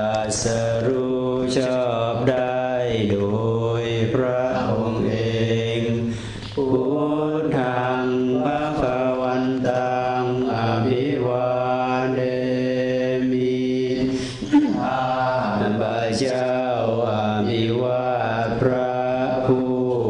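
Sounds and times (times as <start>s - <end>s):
monotone chanting: 0.0s - 20.0s.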